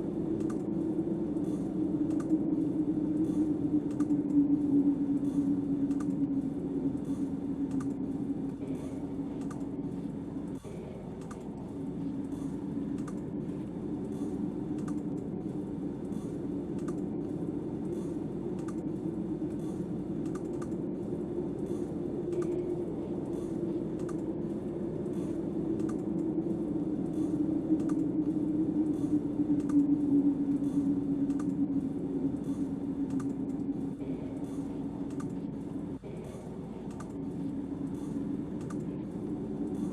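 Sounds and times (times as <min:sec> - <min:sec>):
wind howling: 0:00.0 - 0:39.9
faint regular clicking: 0:00.3 - 0:00.8, 0:01.4 - 0:02.4, 0:03.2 - 0:04.4, 0:05.1 - 0:09.8, 0:10.5 - 0:15.3, 0:16.0 - 0:20.9, 0:21.6 - 0:39.9.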